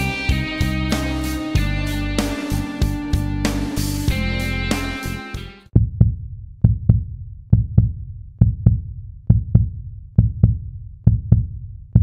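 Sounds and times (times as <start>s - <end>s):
deep double beat music: 0.0s - 12.0s.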